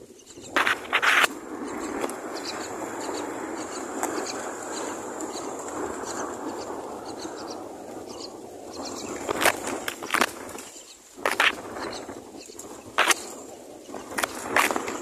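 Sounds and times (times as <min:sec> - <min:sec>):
steady rushing noise: 0:00.0 - 0:15.0
baby birds chirping: 0:00.1 - 0:15.0
loud rustling burst: 0:00.4 - 0:15.0.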